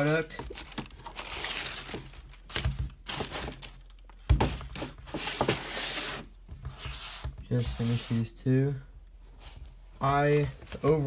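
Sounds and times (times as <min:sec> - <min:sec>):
handling rustling: 0:00.0 - 0:08.2, 0:09.2 - 0:11.0.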